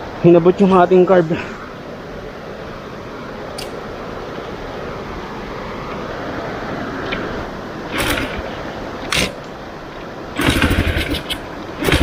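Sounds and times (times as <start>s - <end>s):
motorcycle engine rumble: 1.4s - 12.0s.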